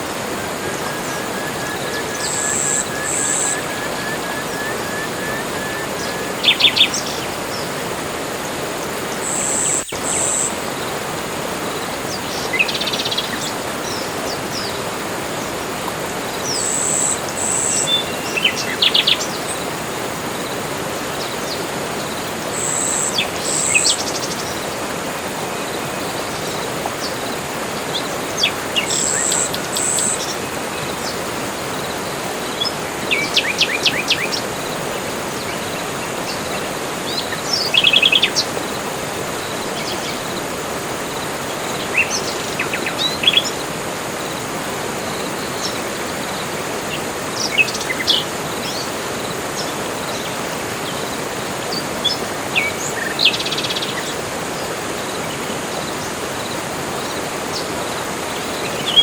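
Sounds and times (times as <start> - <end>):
forest birds calling: 0.0 - 59.0
steady background hiss: 0.0 - 59.0.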